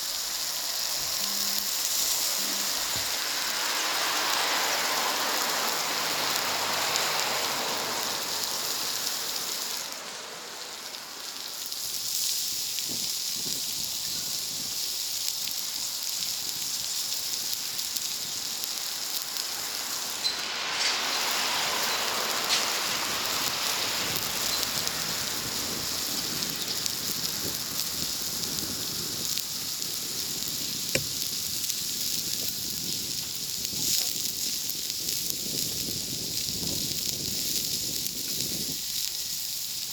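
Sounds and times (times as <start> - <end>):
fire popping: 0.0 - 39.9
food sizzling on barbecue: 0.0 - 39.9.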